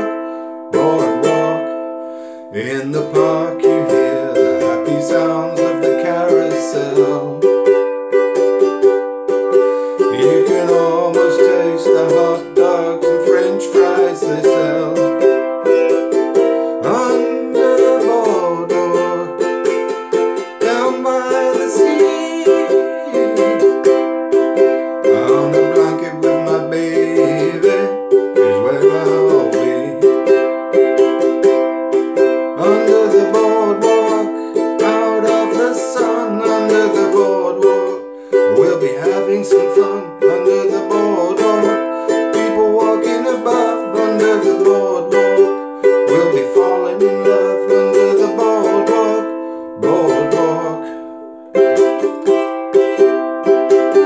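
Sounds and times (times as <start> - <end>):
man singing: 0.0 - 54.0
ukulele strumming: 0.0 - 54.0.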